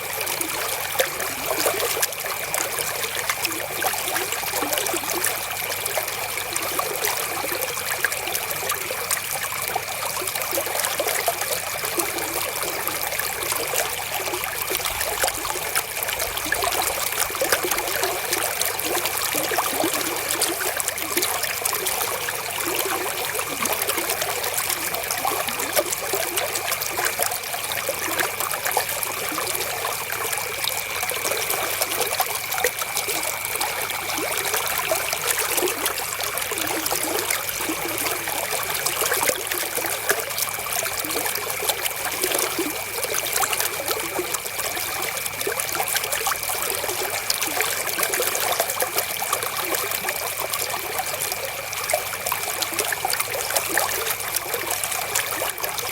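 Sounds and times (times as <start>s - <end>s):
river water flowing and trickling: 0.0s - 55.9s.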